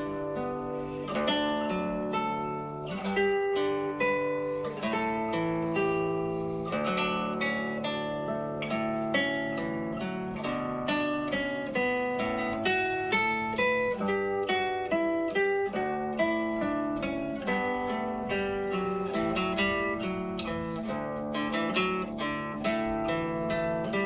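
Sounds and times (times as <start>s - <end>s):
plucked string melody: 0.0s - 24.0s.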